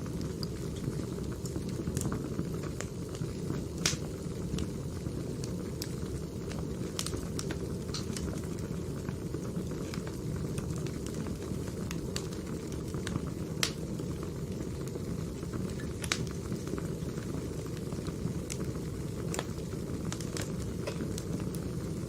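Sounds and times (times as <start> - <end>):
fire crackles and pops: 0.0 - 22.0
low rush of flames: 0.0 - 22.0.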